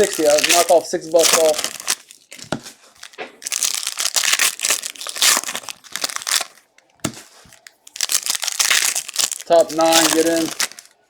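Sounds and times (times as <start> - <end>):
plastic wrappers crinkling and tearing: 0.0 - 11.0.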